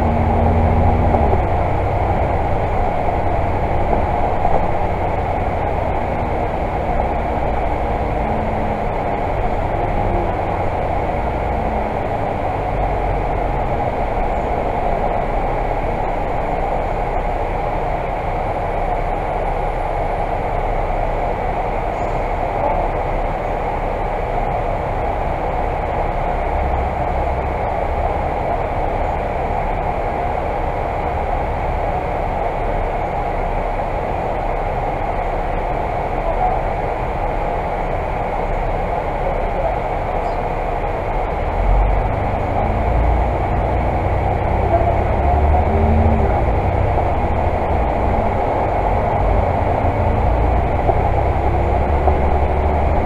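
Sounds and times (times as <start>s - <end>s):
bus engine hum: 0.0s - 53.0s
tyres on wet road: 0.0s - 53.0s.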